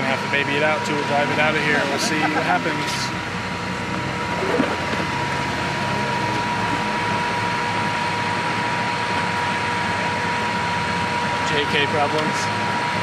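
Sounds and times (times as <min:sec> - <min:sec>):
vehicle engine low rumble: 0:00.0 - 0:13.0.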